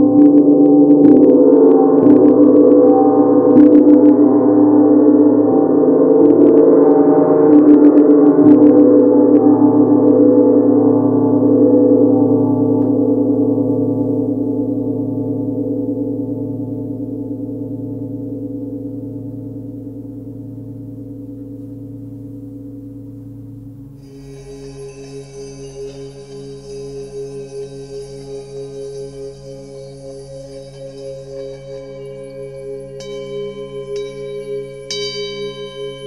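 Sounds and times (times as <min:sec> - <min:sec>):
gong ringing with pulsing hum: 0:00.0 - 0:36.0.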